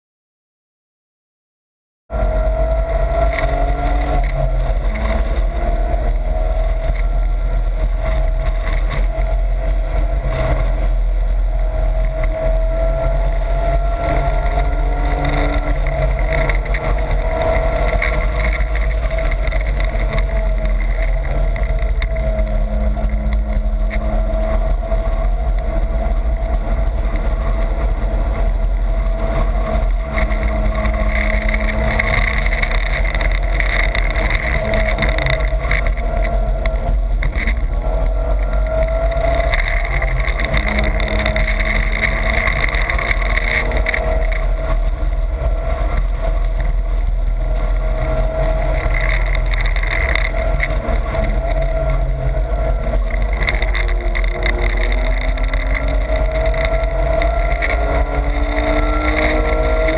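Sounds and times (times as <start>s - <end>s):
car engine running hard: 2.1s - 59.9s
low wind rumble on microphone: 2.1s - 59.9s.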